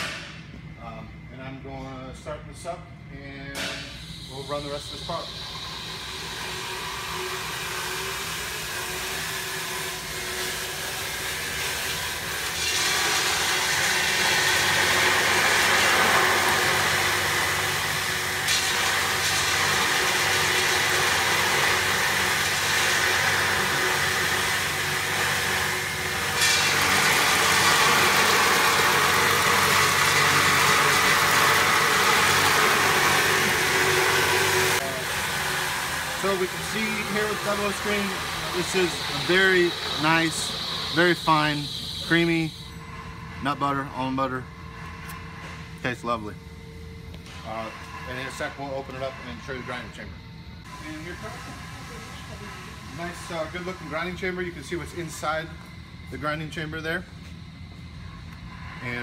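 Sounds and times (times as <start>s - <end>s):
industrial grinder motor humming: 4.0s - 59.0s.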